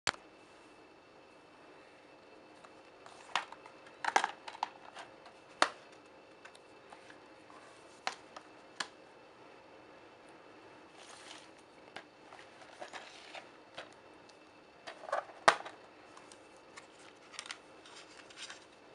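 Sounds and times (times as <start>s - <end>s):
faint steady hum: 0.1s - 18.9s.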